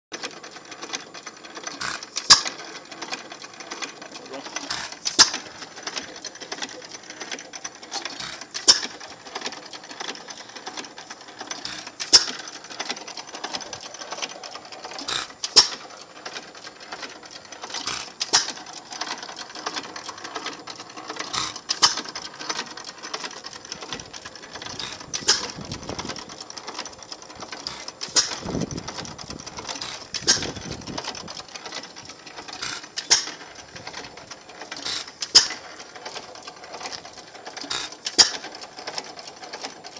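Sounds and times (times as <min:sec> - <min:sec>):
light mechanical clatter: 0:00.1 - 0:39.9.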